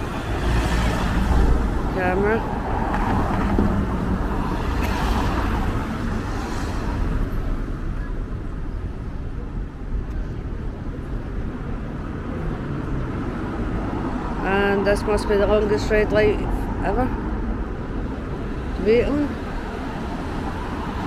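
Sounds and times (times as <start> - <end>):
cars driving past: 0.0 - 8.0, 10.9 - 21.0.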